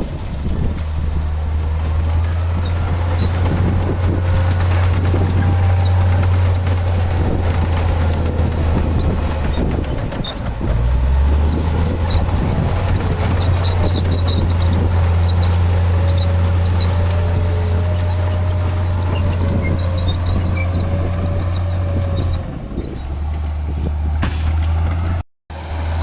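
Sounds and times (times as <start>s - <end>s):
heavy diesel engine under load: 0.0s - 26.0s.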